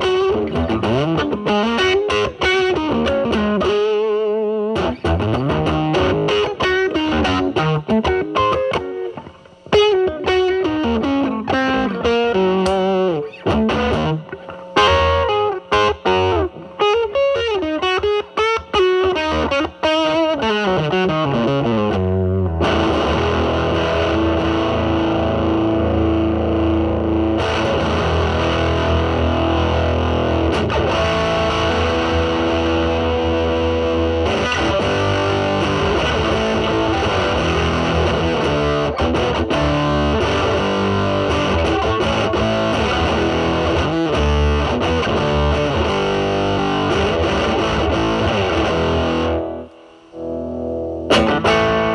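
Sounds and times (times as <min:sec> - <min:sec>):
fuzz electric guitar: 0:00.0 - 0:51.9.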